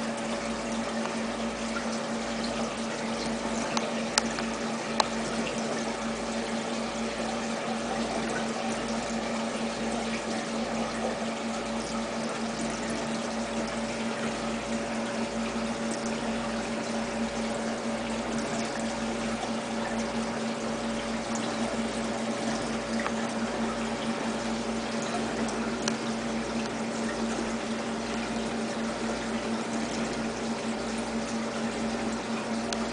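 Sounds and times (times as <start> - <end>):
water pump humming: 0.0 - 32.9
water trickling: 0.0 - 32.9.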